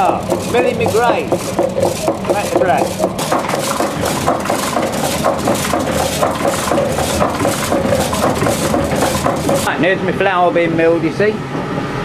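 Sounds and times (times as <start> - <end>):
millstones grinding: 0.0 - 9.8
wooden clatter of windmill machinery: 0.0 - 10.0.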